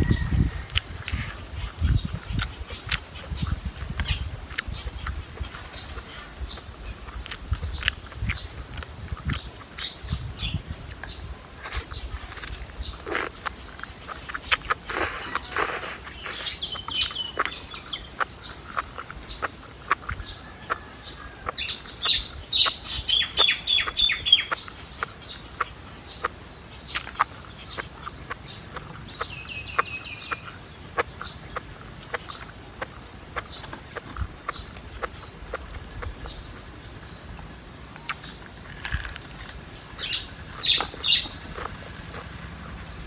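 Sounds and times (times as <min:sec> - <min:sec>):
wet mouth eating sounds: 0:00.0 - 0:42.7
birds chirping: 0:00.0 - 0:43.0.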